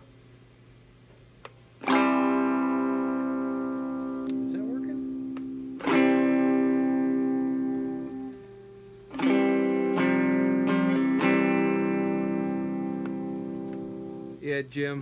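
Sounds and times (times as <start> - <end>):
electric guitar chords strummed: 1.8 - 14.4.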